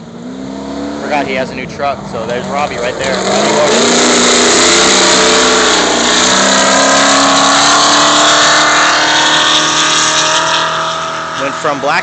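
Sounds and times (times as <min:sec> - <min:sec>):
road and wind noise: 0:00.0 - 0:12.0
truck engine revving high: 0:00.0 - 0:12.0.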